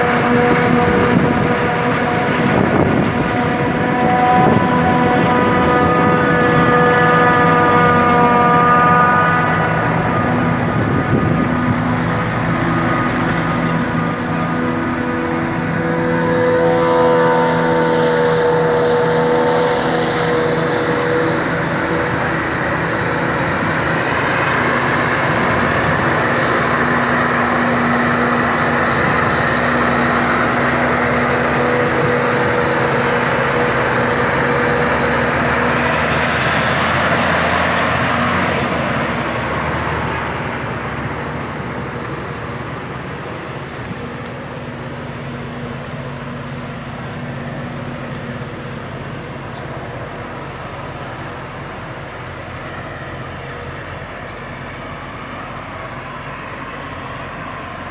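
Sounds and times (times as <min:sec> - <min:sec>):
forage harvester running: 0:00.0 - 0:57.9.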